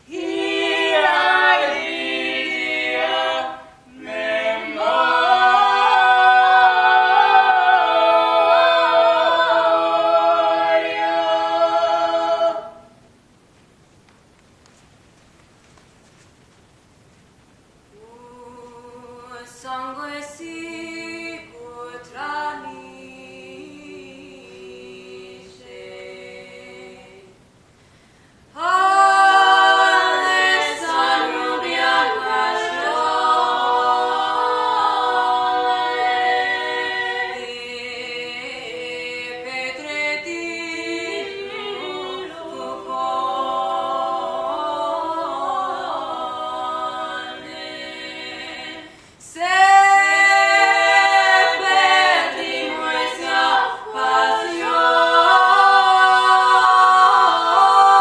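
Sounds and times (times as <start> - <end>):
choir singing a cappella: 0.0 - 13.1, 18.0 - 27.5, 28.5 - 58.0.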